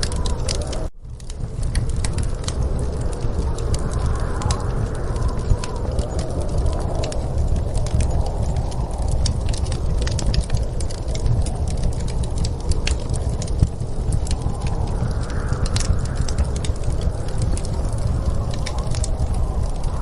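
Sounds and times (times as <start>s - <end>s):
low rumble of storm wind: 0.0s - 20.0s
wood fire crackling and popping: 0.0s - 20.0s.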